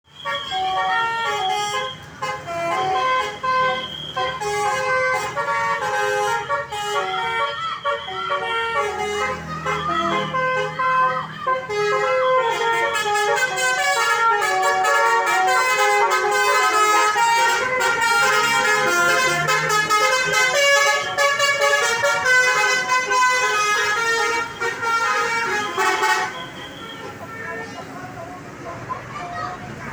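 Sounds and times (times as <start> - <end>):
multi-tone bus horns playing melodies: 0.1 - 29.0.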